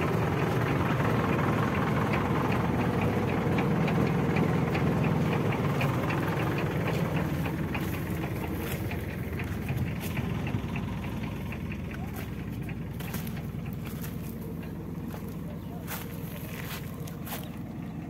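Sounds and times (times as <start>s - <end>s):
engine ticking: 0.0s - 18.0s
tractor diesel engine rumbling: 0.0s - 18.0s.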